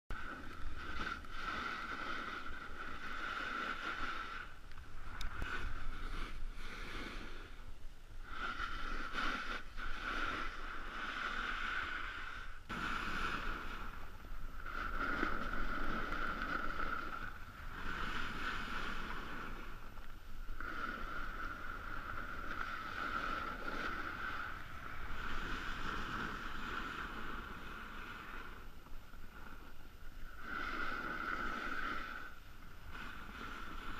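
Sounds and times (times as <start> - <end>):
snow hissing under skis: 0.2 - 33.9.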